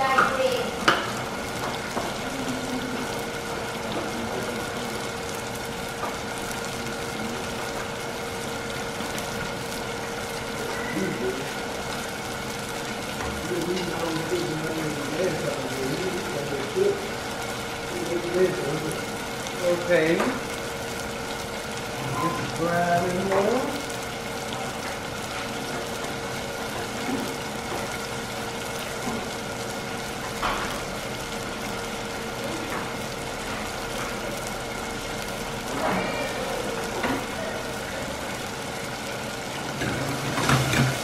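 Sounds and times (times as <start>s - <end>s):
food sizzling in a pan: 0.0s - 41.0s
steady hum: 0.0s - 41.0s.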